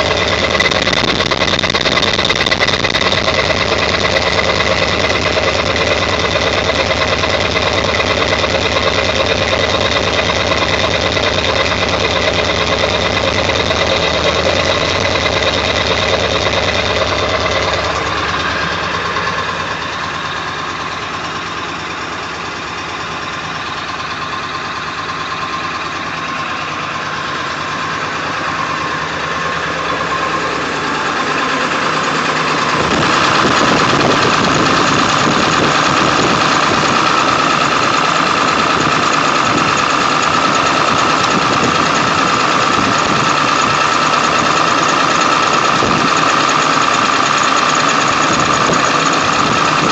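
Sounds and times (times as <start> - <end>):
diesel engine idling with knock: 0.0 - 49.9.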